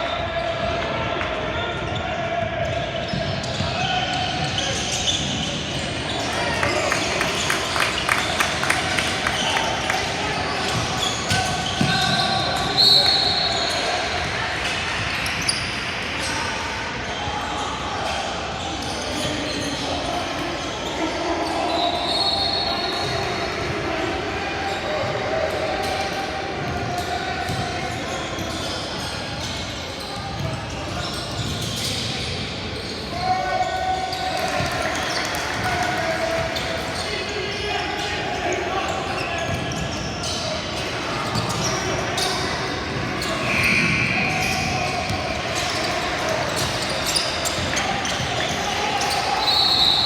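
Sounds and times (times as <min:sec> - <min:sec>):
crowd voices: 0:00.0 - 0:50.0
gym background noise: 0:00.0 - 0:50.0
sneaker squeak: 0:01.9 - 0:17.3, 0:18.0 - 0:23.7, 0:24.6 - 0:50.0.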